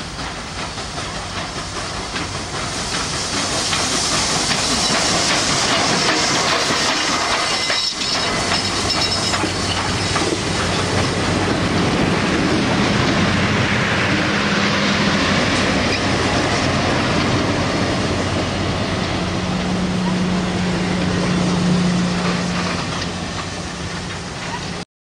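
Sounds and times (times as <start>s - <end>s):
train rolling past on rails: 0.0s - 24.8s.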